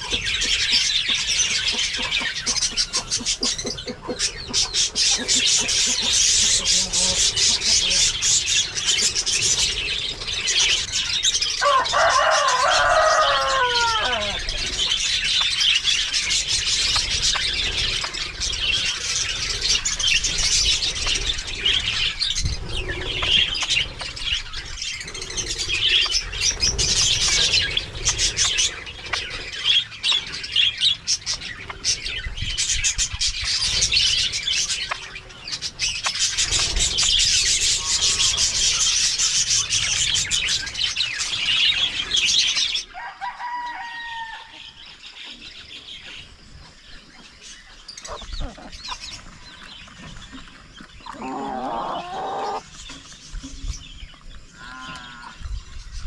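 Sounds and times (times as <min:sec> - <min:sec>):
lower bird calls: 0:00.0 - 0:43.1, 0:43.8 - 0:56.0
small birds chirping and chattering: 0:00.0 - 0:56.0.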